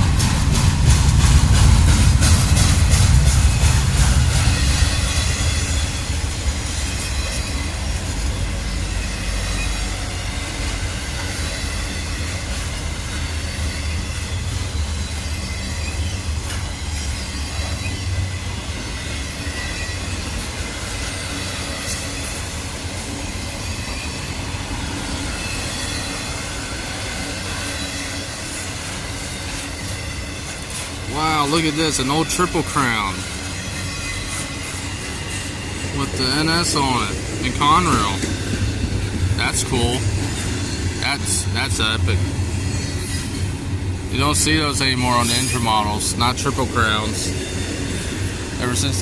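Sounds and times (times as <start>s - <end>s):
wheels clicking over rail joints: 0.0s - 41.1s
freight train wheels rumbling: 0.0s - 49.0s.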